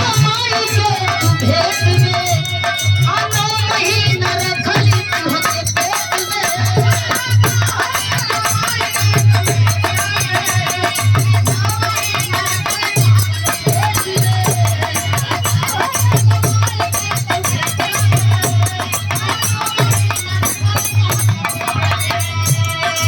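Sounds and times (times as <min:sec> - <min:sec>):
jingling rattling percussion: 0:00.0 - 0:23.0.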